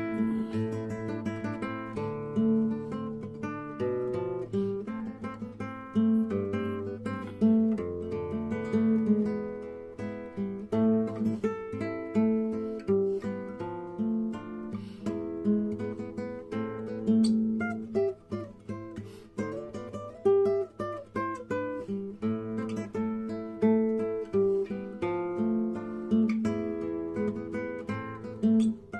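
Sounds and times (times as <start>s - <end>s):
acoustic guitar instrumental: 0.0s - 28.9s.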